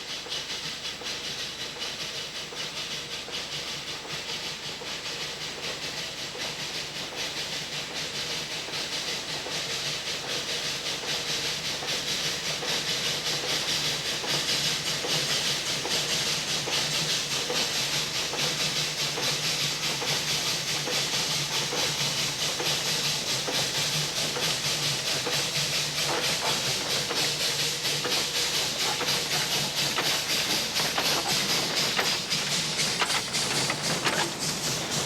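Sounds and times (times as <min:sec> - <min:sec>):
steam hissing: 0:00.0 - 0:35.0
steam locomotive exhaust beats: 0:00.0 - 0:35.0.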